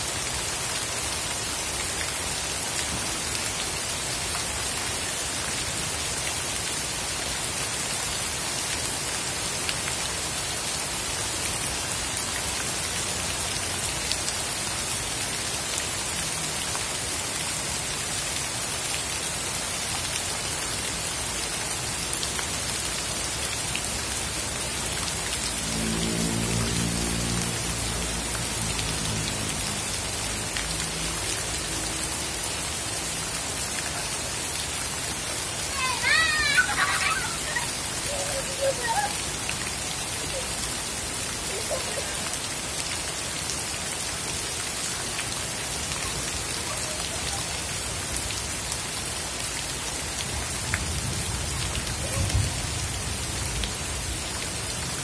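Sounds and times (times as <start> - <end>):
heavy rain on water: 0.0 - 55.0.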